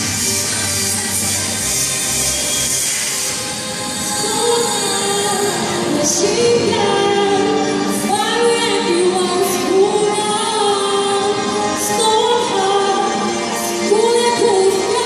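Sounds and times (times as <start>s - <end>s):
musical accompaniment: 0.0s - 15.0s
woman singing into microphone: 0.2s - 2.4s, 3.3s - 15.0s.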